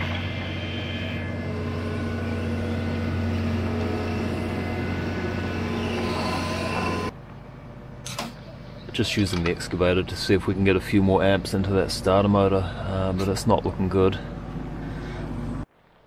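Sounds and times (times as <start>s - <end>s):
excavator diesel engine running: 0.0s - 15.7s.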